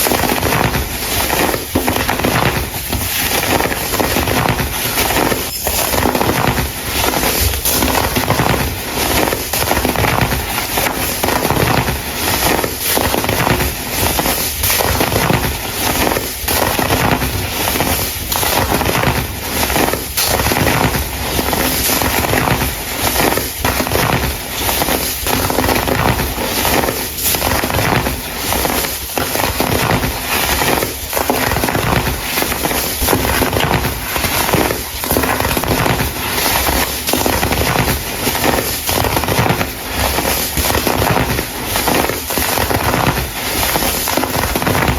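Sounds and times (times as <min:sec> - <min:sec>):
baking soda crumble crunching: 0:00.0 - 0:44.9.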